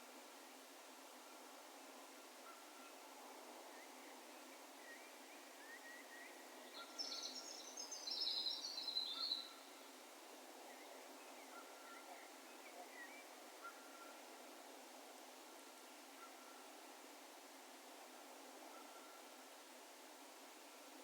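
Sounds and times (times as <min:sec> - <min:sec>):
open-air background hiss: 0:00.0 - 0:21.0.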